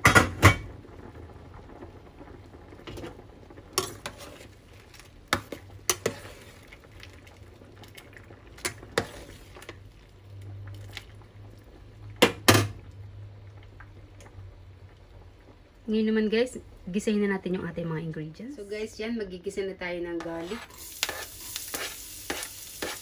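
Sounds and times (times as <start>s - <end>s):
water boiling in a pot: 0.0s - 23.0s.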